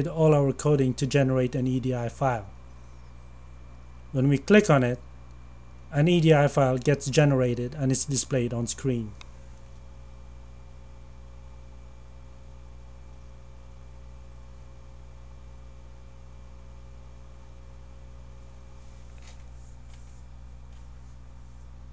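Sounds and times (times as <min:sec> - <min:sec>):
electrical mains hum: 0:00.0 - 0:21.9.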